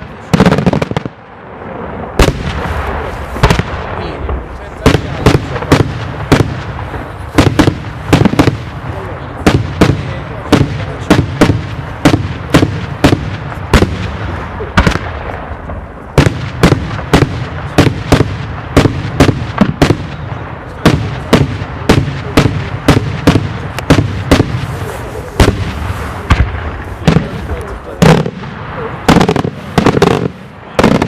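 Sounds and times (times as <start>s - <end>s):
echoing rumble: 0.0s - 31.0s
fireworks bursting: 0.0s - 31.0s.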